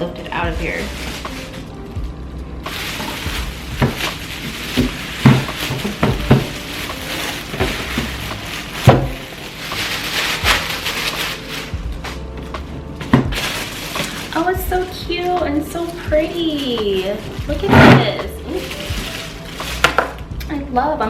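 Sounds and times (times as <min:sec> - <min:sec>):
plastic wrapping crinkling: 0:00.0 - 0:20.3.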